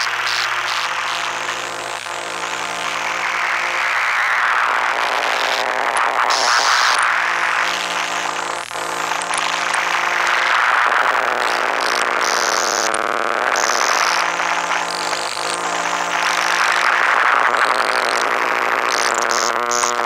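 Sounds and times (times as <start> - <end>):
electrical humming tones: 0.0 - 20.0
high-pitched noise: 0.0 - 20.0.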